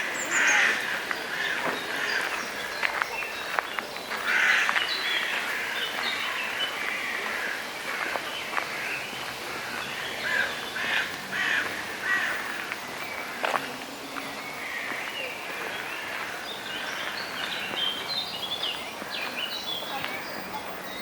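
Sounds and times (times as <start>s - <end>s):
birds calling harshly: 0.0s - 21.0s.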